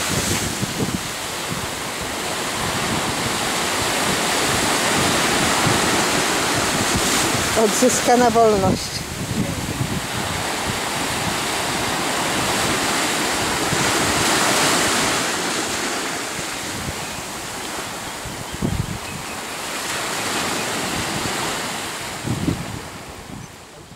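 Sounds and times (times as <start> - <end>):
sea waves washing on a beach: 0.0 - 23.9
wind buffeting the microphone: 0.0 - 23.9.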